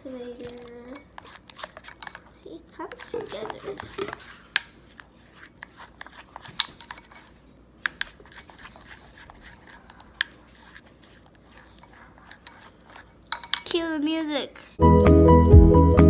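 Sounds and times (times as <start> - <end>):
sticky slime stirring: 0.0 - 14.8.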